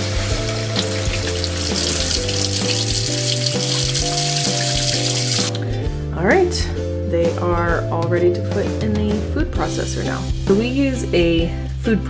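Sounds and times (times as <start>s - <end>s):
guitar music: 0.0s - 10.1s.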